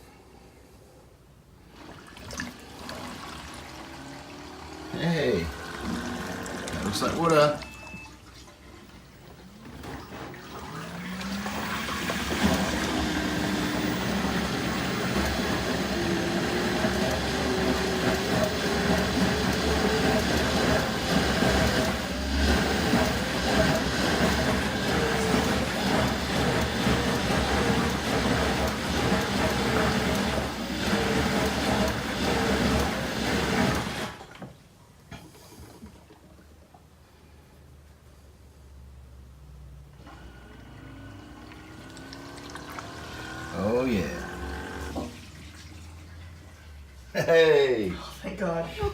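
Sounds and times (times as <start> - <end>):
dishwasher drain pump running: 1.6 - 36.6, 39.6 - 48.9.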